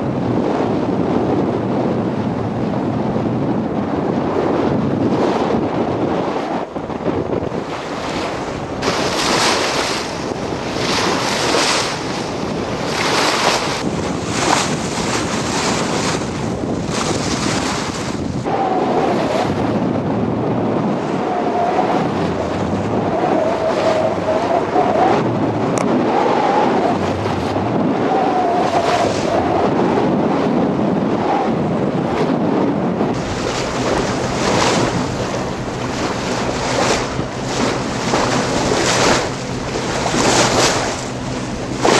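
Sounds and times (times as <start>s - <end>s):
waves splashing against hull: 0.0s - 41.9s
wind buffeting microphone: 0.0s - 41.9s.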